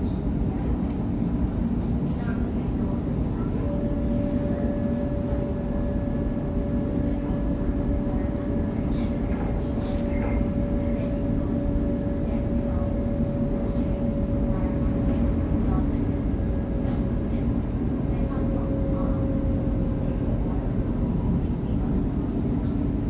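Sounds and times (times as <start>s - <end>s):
steady train whine: 0.0s - 23.0s.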